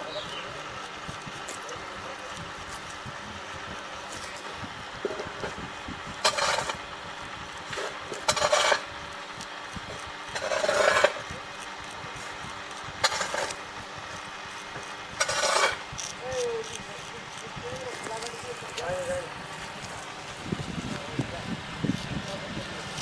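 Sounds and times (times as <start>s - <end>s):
razor scraping beard stubble: 0.0s - 5.6s, 6.2s - 6.9s, 7.5s - 23.0s.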